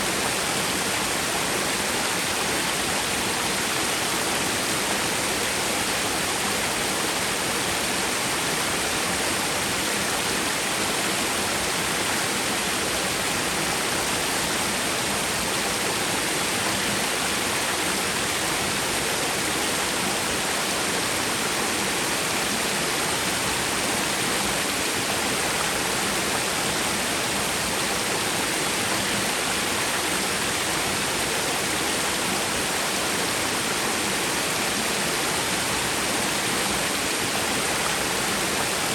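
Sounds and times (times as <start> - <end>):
waterfall rushing into stream: 0.0 - 38.9.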